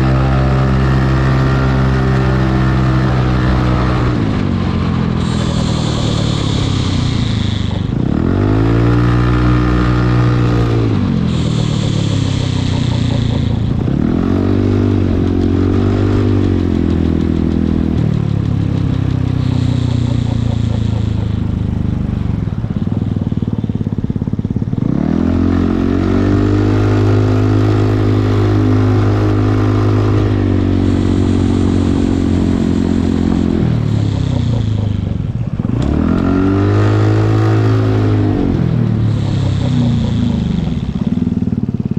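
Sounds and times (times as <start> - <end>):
scooter engine revving: 0.0 - 41.9.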